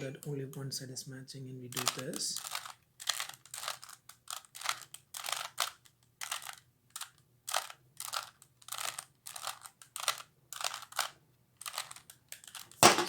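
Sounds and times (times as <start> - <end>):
puzzle cube turning clicks: 1.7 - 13.0.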